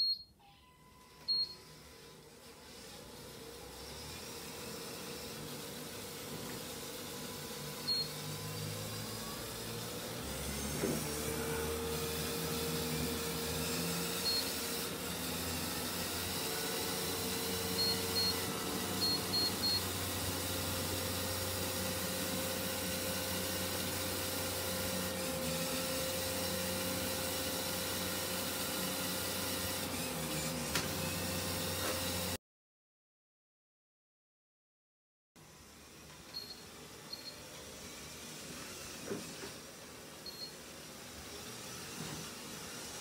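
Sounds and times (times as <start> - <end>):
toy motor whine and gear drone: 1.5 - 32.4, 36.3 - 43.0.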